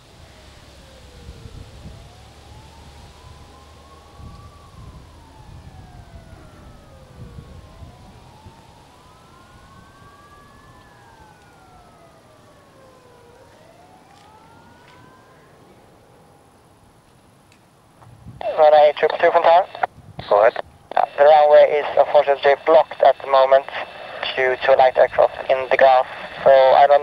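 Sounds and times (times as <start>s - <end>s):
emergency sirens wailing: 0.0s - 27.0s.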